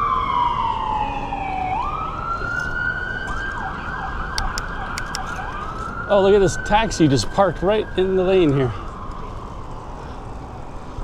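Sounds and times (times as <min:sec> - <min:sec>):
siren wailing: 0:00.0 - 0:11.0
siren yelping: 0:00.0 - 0:11.0.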